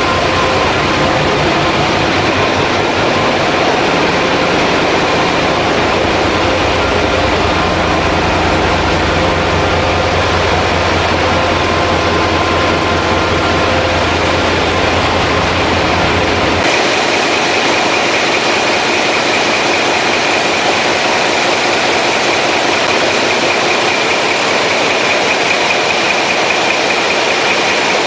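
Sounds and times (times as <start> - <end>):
deep hum: 0.0 - 25.3
engine room machinery din: 0.0 - 28.0
whining tones: 0.0 - 28.0.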